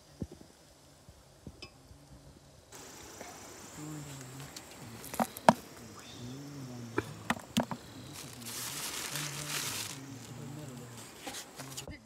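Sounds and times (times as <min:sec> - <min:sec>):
hiss: 0:00.0 - 0:11.9
low murmuring voices: 0:01.6 - 0:12.0.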